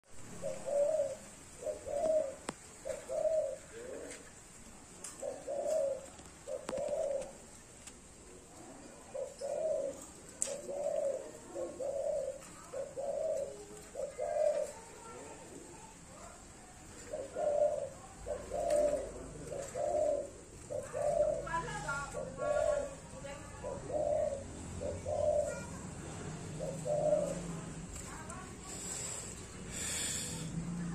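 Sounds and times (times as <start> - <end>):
dove cooing: 0.2 - 30.9.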